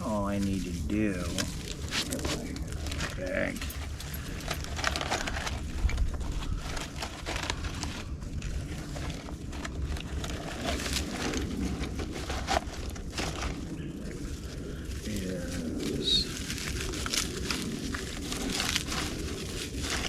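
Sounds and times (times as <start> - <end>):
dry plant fibers crackling: 0.0 - 20.0
low rumble: 0.0 - 20.0.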